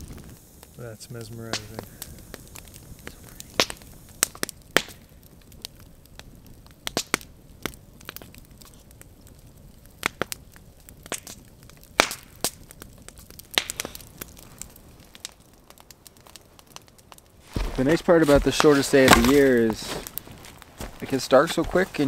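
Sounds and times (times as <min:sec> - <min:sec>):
campfire crackling: 0:00.0 - 0:22.0
sharp fire pops: 0:00.0 - 0:22.0.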